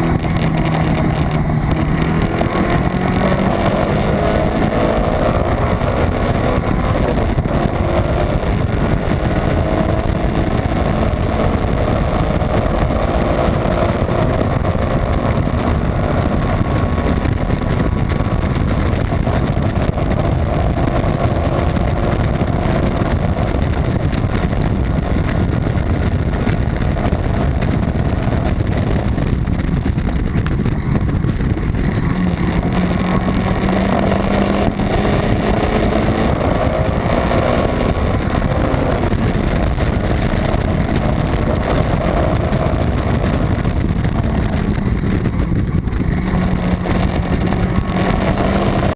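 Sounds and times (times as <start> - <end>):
race car engine running hard: 0.0 - 48.9
wind and road noise: 0.0 - 48.9.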